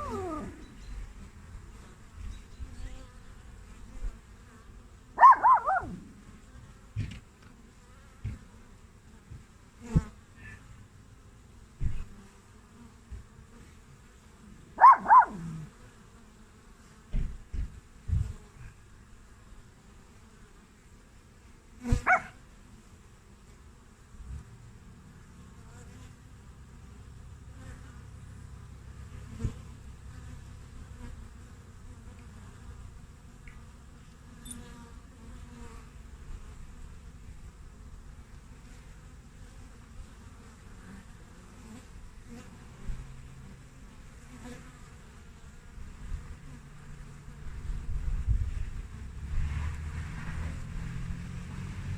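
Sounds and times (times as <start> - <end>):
honeybees buzzing: 0.0 - 51.9.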